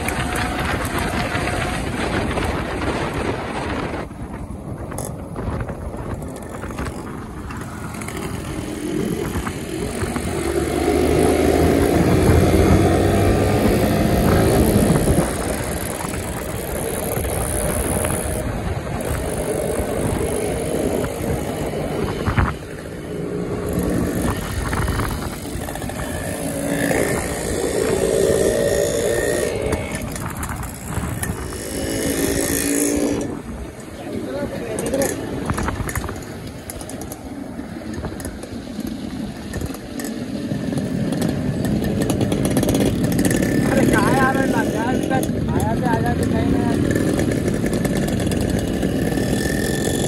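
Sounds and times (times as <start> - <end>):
motorcycle engines: 0.0 - 50.0
wind on microphone: 0.0 - 50.0.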